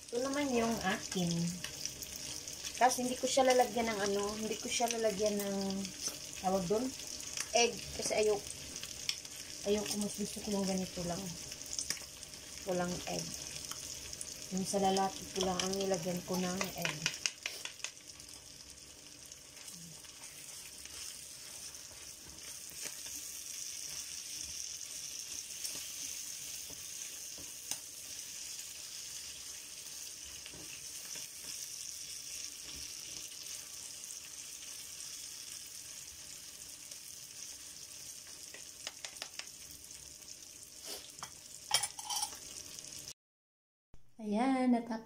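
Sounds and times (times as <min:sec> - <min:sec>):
meat sizzling in a pan: 0:00.0 - 0:43.2.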